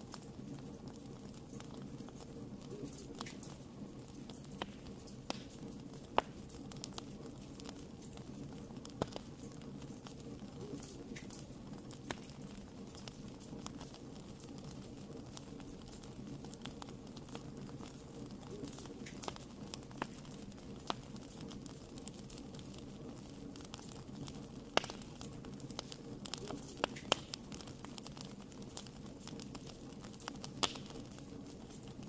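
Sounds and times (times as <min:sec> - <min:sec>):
low rumble of flames: 0:00.0 - 0:32.0
wood fire crackling and popping: 0:00.0 - 0:32.0.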